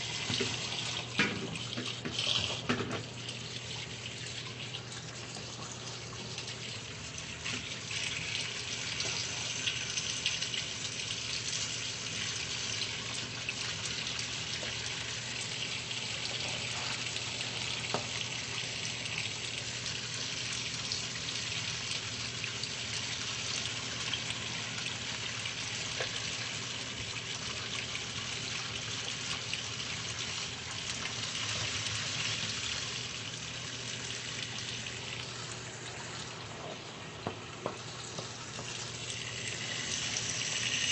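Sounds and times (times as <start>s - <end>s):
water running: 0.0s - 40.9s.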